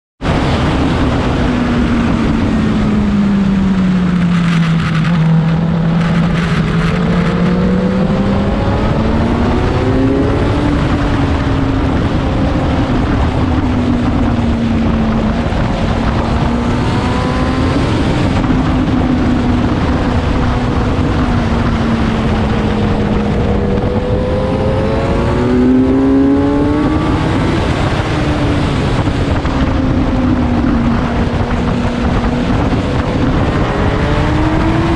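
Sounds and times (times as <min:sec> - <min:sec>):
wind rushing on microphone: 0:00.2 - 0:34.9
motorcycle engine revving: 0:00.3 - 0:34.9.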